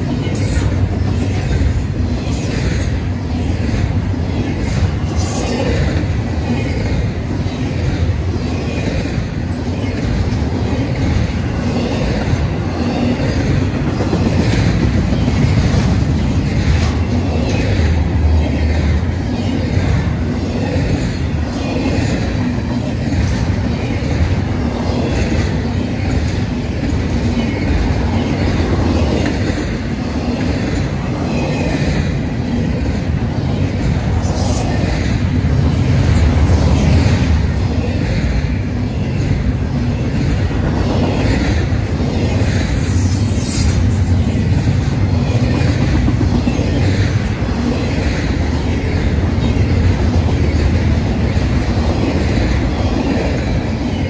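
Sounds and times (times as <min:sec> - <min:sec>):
freight train cars rolling: 0:00.0 - 0:54.0.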